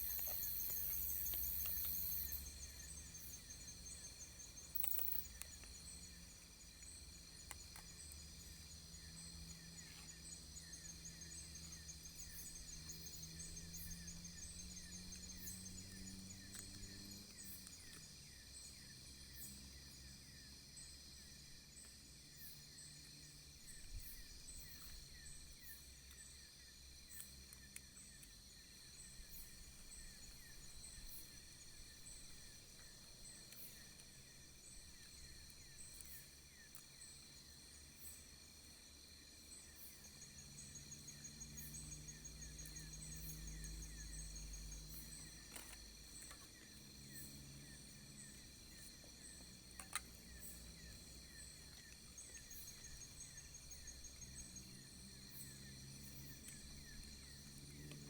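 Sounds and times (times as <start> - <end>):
insect trills and chirps: 0.0 - 58.0.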